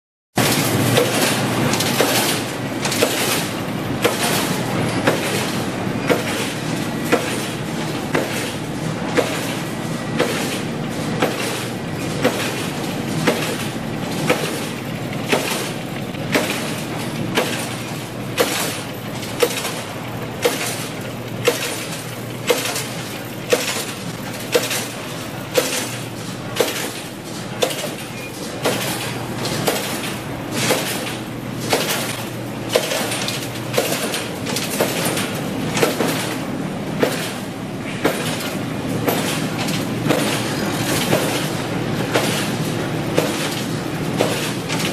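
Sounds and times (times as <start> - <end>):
machines mechanical din: 0.4 - 44.9.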